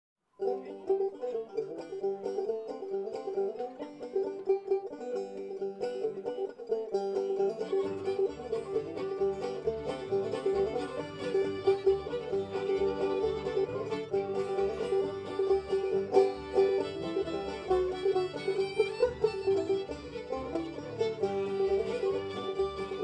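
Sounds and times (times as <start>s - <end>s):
banjo picking: 0.4s - 23.0s
double bass notes: 0.6s - 23.0s.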